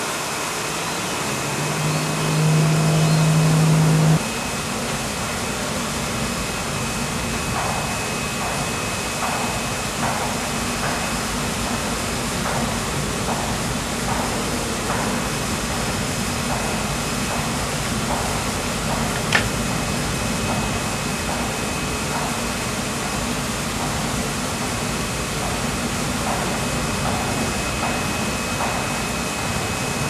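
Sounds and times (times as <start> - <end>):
machine drone and rushing hiss: 0.0 - 30.0.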